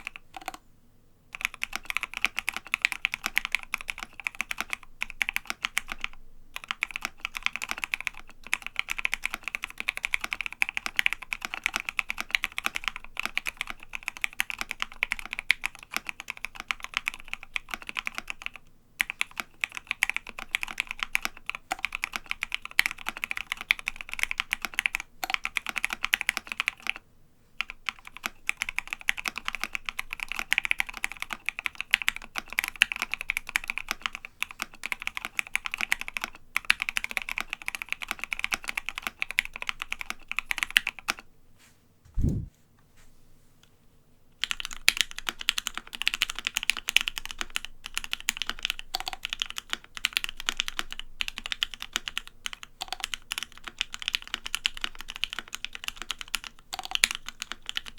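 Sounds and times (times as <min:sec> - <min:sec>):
fast keyboard typing: 0:00.0 - 0:00.6, 0:01.3 - 0:27.0, 0:27.6 - 0:41.3, 0:44.4 - 0:57.9.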